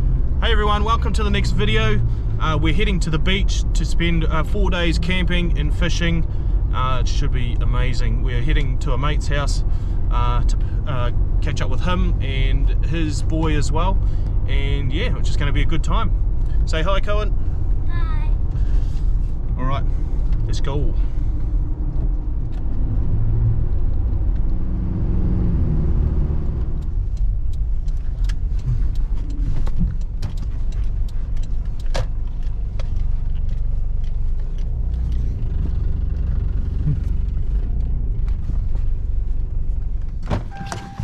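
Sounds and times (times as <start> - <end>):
car engine and road rumble: 0.0 - 41.0.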